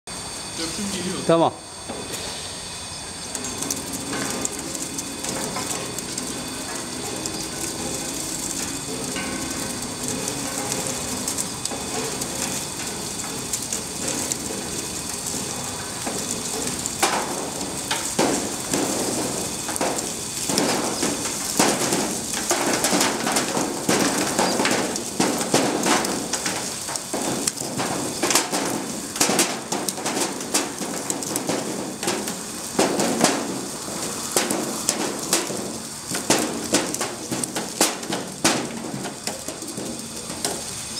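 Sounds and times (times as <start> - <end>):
machine humming: 0.1 - 40.9
bulbs knocking and clattering: 3.6 - 40.7.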